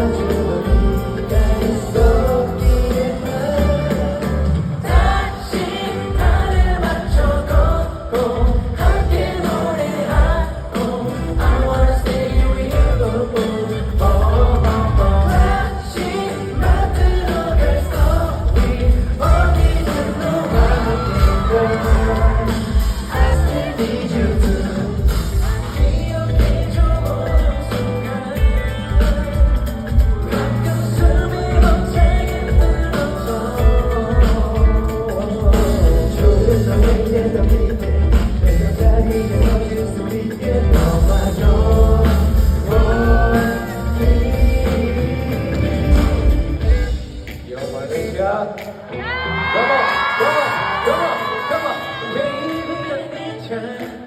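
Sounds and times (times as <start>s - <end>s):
backing track with heavy bass beat: 0.0s - 48.8s
person singing: 0.0s - 54.0s
pop song sung live: 0.0s - 54.0s.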